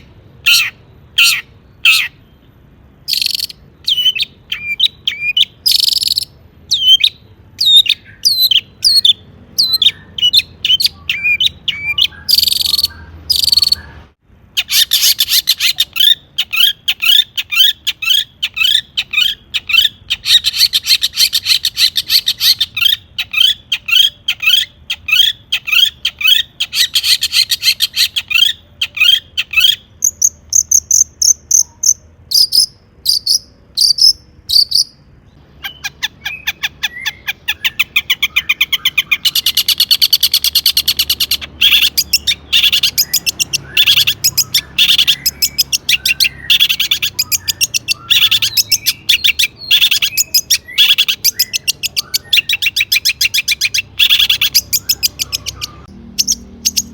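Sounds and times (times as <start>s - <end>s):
bird whistling song: 0.0s - 56.9s
harsh rasping bird calls: 0.0s - 56.9s.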